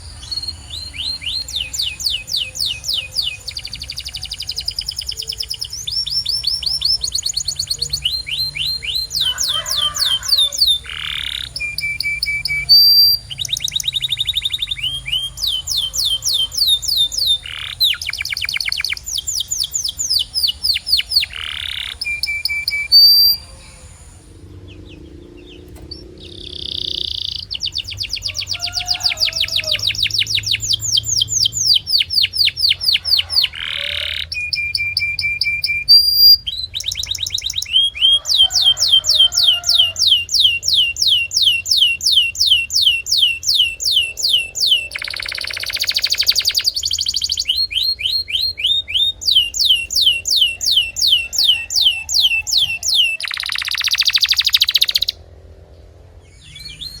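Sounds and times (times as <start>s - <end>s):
canary singing rapid trills: 0.0s - 55.3s.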